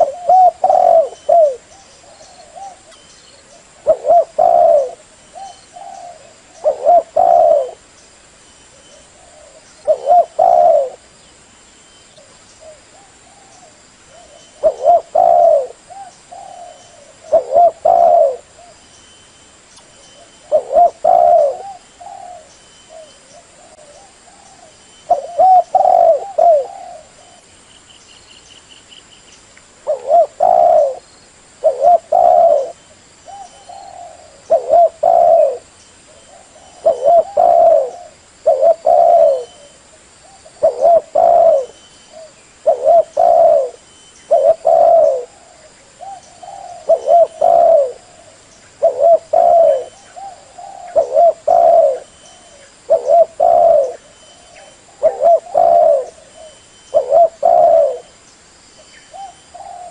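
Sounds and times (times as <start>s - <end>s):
dove cooing: 0.0s - 7.9s, 8.7s - 11.1s, 12.2s - 18.8s, 20.0s - 27.5s, 29.8s - 58.2s, 59.1s - 59.9s.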